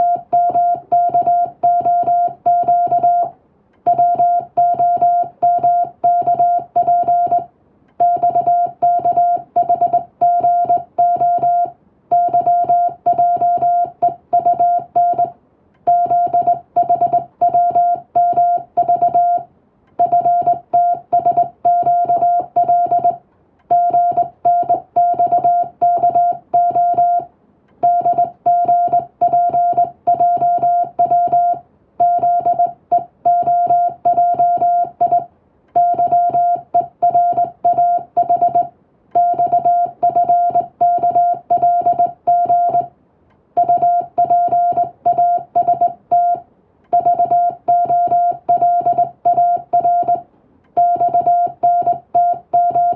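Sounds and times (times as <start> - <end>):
morse code tone: 0.0 - 3.3, 3.9 - 42.9, 43.6 - 50.2, 50.8 - 52.9.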